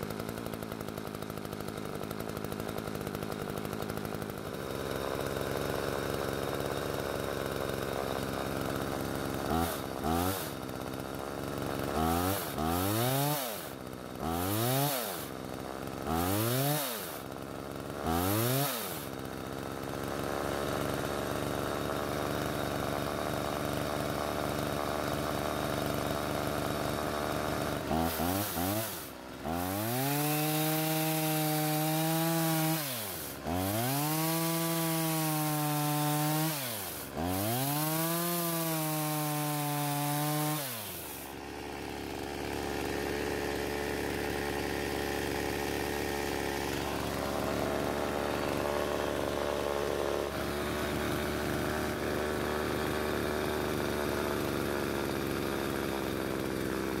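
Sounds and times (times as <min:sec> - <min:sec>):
chainsaw revving and cutting log: 0:00.0 - 0:57.0.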